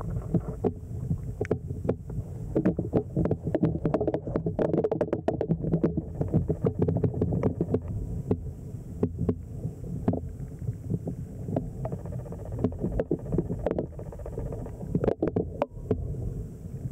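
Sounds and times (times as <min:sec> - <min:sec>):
sharp underwater clicks and knocks: 0:00.0 - 0:16.1
underwater river flow: 0:00.0 - 0:16.9.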